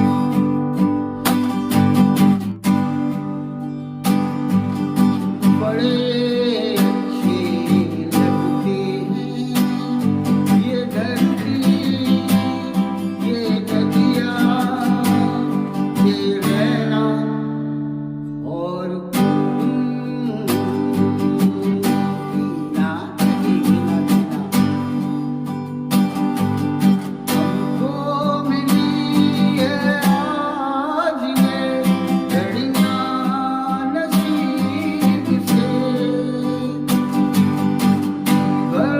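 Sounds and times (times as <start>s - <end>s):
acoustic guitar strumming: 0.0s - 38.9s
person singing: 5.3s - 25.7s, 27.0s - 38.9s.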